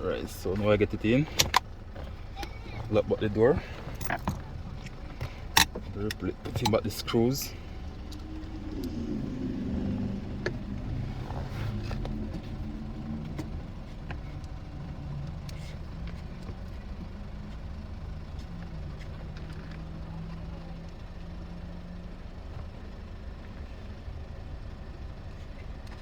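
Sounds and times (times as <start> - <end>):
low vehicle rumble: 0.0 - 26.0.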